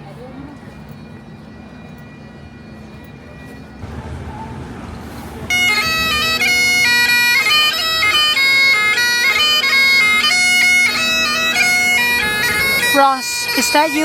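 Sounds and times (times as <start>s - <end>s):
bagpipes playing a tune: 1.2s - 14.0s.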